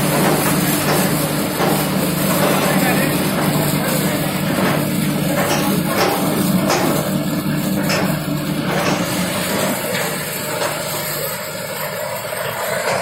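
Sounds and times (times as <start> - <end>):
waste grinder running: 0.0 - 13.0.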